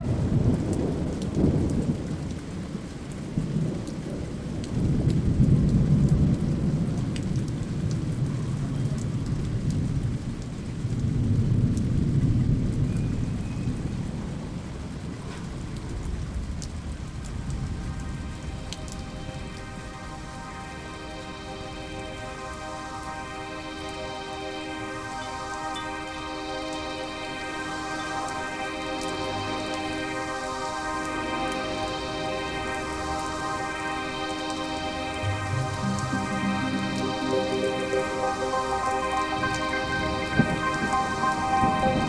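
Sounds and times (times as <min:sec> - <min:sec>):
rain drops pattering: 0:00.0 - 0:42.0.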